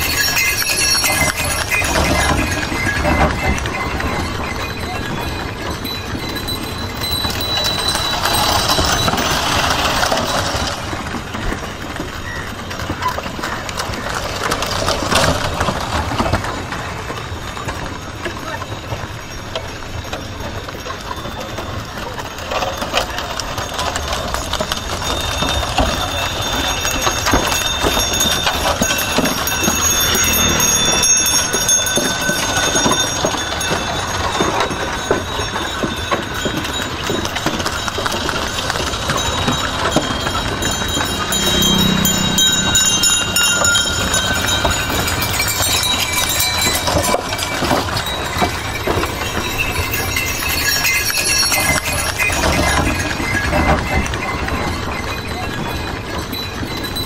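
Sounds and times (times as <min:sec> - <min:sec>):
bells ringing: 0:00.0 - 0:57.0
cart wheels rattling on road: 0:00.0 - 0:57.0
hooves clopping: 0:00.0 - 0:57.0.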